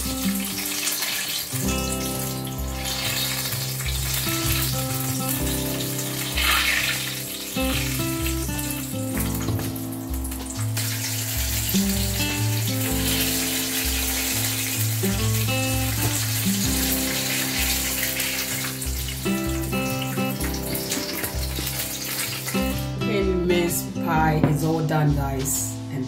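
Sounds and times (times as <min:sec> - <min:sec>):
hot oil sizzling: 0:00.0 - 0:23.1
background music with bass line: 0:00.0 - 0:26.0.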